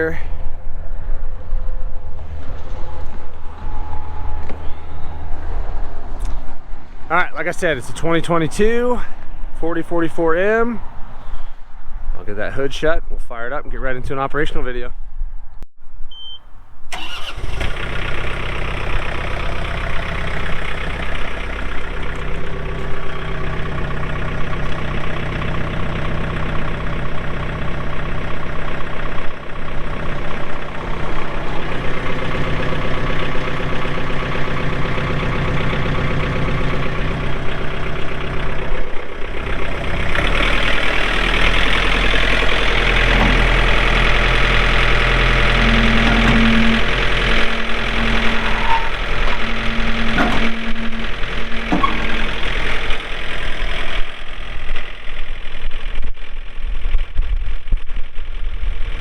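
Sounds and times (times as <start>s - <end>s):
tractor diesel engine running: 0.0s - 11.6s, 16.9s - 59.0s.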